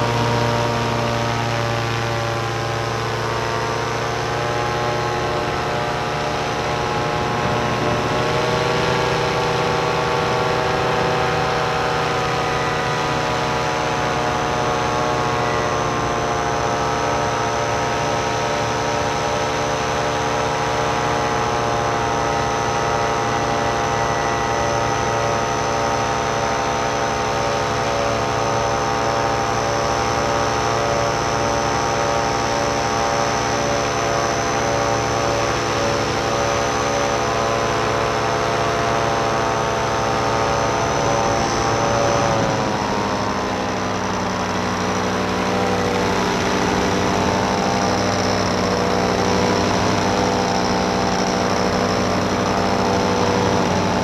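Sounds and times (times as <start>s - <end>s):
paraglider engine and propeller: 0.0s - 54.0s.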